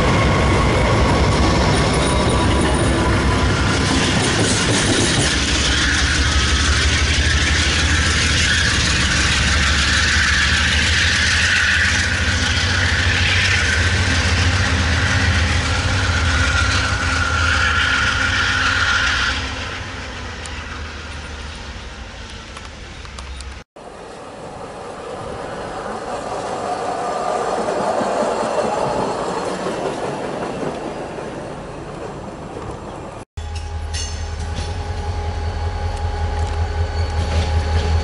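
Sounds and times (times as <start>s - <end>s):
diesel locomotive engine drone: 0.0s - 38.0s
wheel and rail noise: 0.0s - 38.0s.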